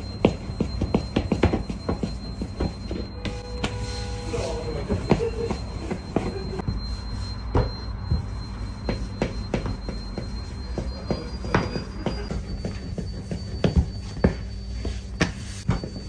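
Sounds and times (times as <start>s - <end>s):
squeaky tone: 0.0s - 16.0s.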